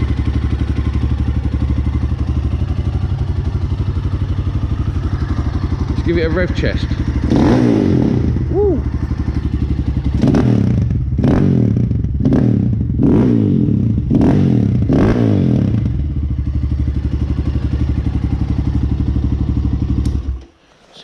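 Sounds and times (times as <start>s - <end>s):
dirt bike engine revving: 0.0s - 20.4s
dirt bike engine idling: 0.0s - 20.5s.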